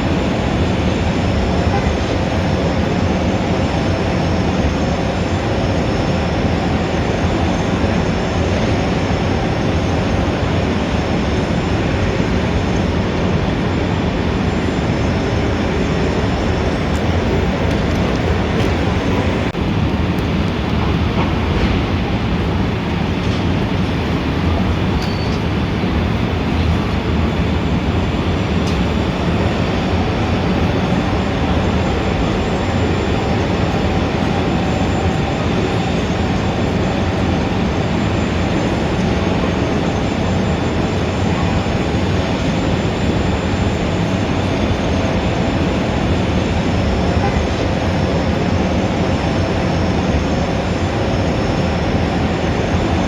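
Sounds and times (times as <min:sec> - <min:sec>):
city traffic rumble: 0:00.0 - 0:53.0.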